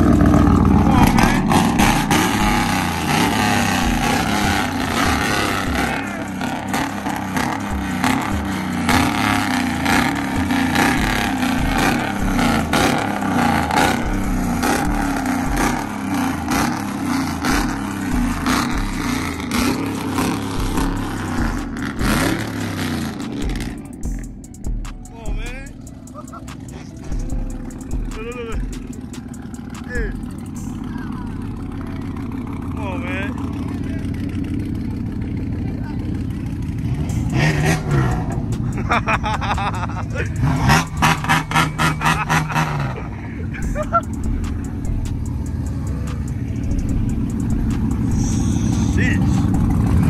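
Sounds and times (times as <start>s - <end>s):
pulsing bass beat: 0.0s - 50.0s
truck engine revving: 0.0s - 50.0s.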